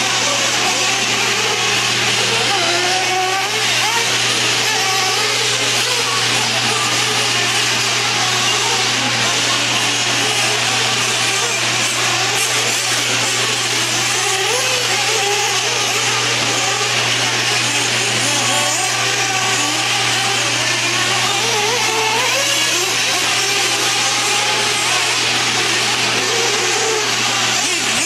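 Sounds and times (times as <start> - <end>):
small engines revving high: 0.0 - 28.0.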